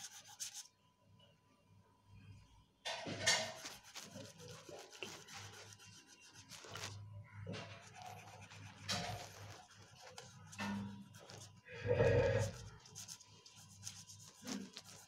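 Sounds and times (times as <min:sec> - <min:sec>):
colouring strokes on paper: 0:00.0 - 0:00.7, 0:03.2 - 0:15.0.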